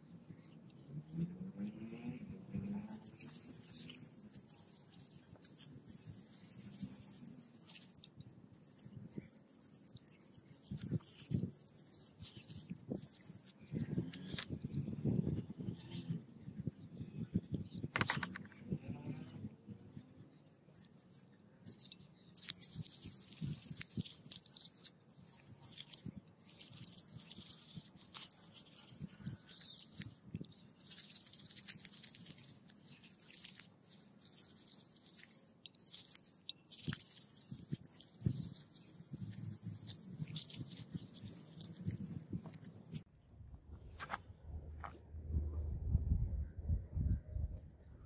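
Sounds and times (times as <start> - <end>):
toothbrush scrubbing metal: 0.0 - 1.7, 2.8 - 43.1.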